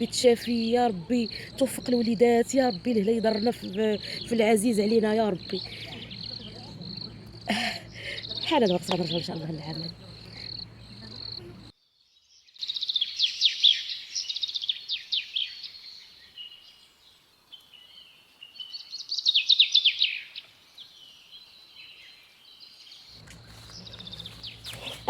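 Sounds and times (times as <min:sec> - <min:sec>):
quiet bird chirps: 0:00.0 - 0:25.0
songbird singing: 0:00.0 - 0:25.0.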